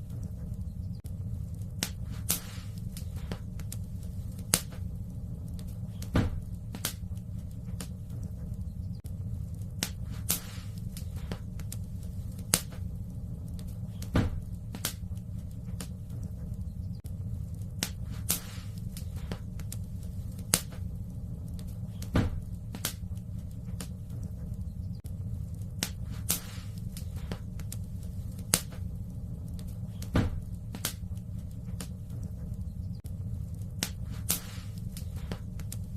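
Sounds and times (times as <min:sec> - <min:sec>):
low rumble of flames: 0:00.0 - 0:35.9
wood fire crackling and popping: 0:00.0 - 0:35.9.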